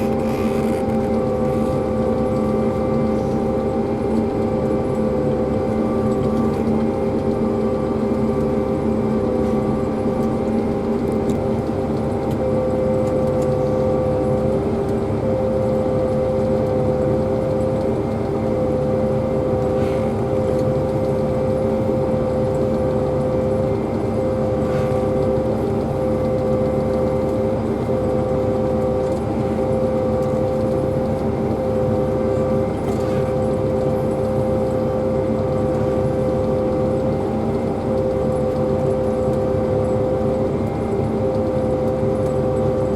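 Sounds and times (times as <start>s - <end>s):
harvester machine droning: 0.0s - 42.9s.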